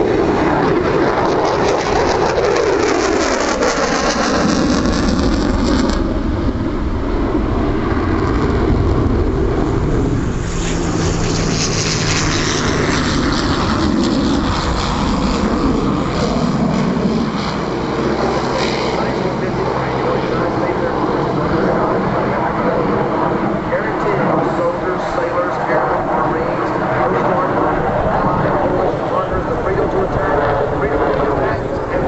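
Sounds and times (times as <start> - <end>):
jet fly-by roar: 0.0 - 32.0.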